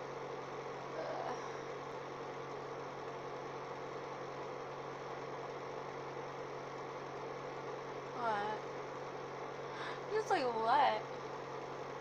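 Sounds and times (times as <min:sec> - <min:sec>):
steady background hum with hiss: 0:00.0 - 0:12.0.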